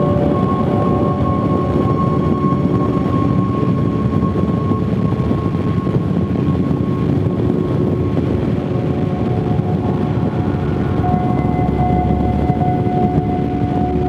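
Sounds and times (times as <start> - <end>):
road and wind noise: 0.0 - 14.0
thin steady whine: 0.0 - 14.0.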